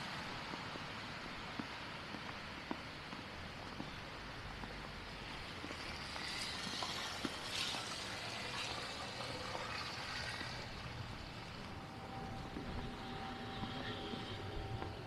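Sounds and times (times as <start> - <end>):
steady street hiss: 0.0 - 15.0.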